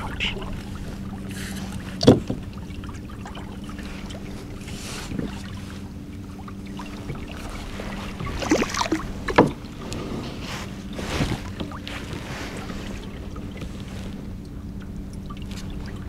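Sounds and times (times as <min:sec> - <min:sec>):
faint steady hum: 0:00.0 - 0:16.0
gear rustling and knocking on hull: 0:00.0 - 0:16.0.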